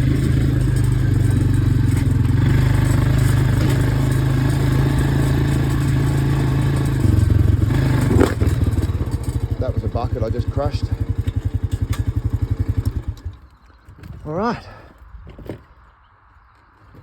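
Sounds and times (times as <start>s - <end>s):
farm vehicle engine running: 0.0s - 14.8s.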